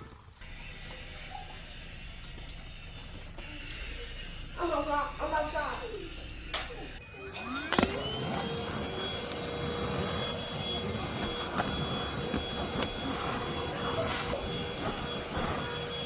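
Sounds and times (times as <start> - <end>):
vacuum cleaner motor whine: 0.4 - 16.0.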